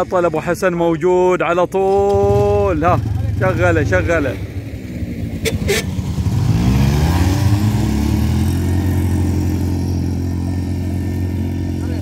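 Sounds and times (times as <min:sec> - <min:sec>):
quad bike engine revving: 0:01.9 - 0:12.0.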